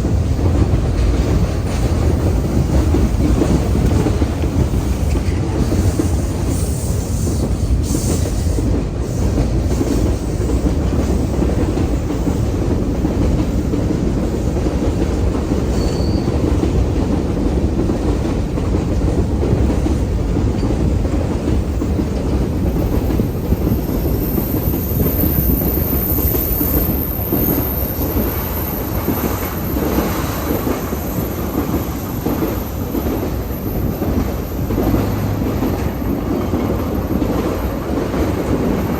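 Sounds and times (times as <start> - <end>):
railcar wheels clattering: 0.0 - 38.9.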